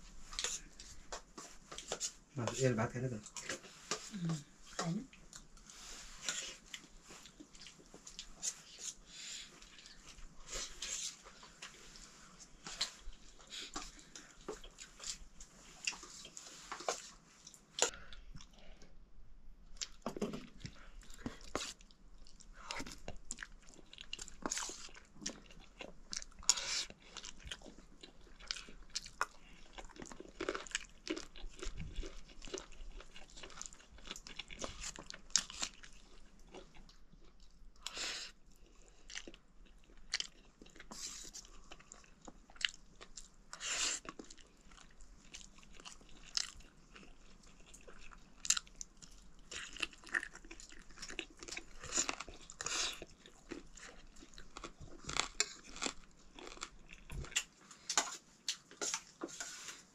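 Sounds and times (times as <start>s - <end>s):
man chewing food: 0.1s - 2.6s, 3.2s - 19.0s, 19.6s - 59.9s.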